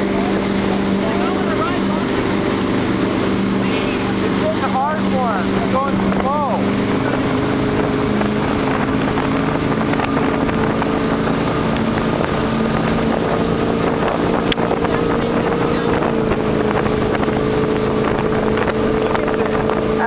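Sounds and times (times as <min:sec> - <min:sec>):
motorboat engine running: 0:00.0 - 0:20.0
wake churning: 0:00.0 - 0:20.0
wind buffeting microphone: 0:00.0 - 0:20.0.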